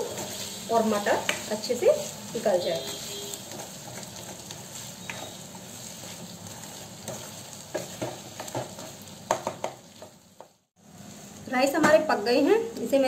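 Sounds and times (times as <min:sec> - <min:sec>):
spoon scraping and knocking pan: 0:00.0 - 0:10.6
wooden spoon stirring: 0:00.0 - 0:10.6
vegetables sizzling in a pan: 0:00.0 - 0:13.0.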